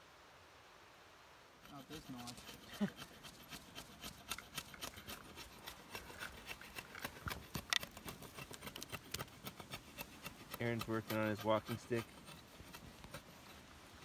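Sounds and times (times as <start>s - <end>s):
blade scraping wood: 1.6s - 14.0s.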